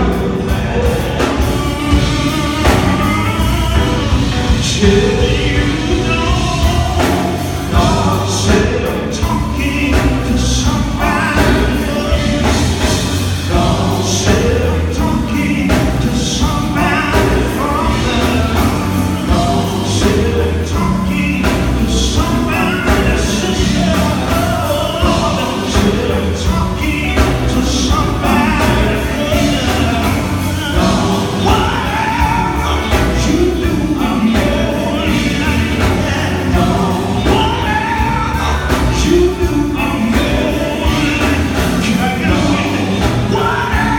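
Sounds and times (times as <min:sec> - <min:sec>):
backing singers: 0:00.0 - 0:43.9
drums: 0:00.0 - 0:43.9
electric guitar: 0:00.0 - 0:43.9
lead singer on microphone: 0:00.0 - 0:43.9.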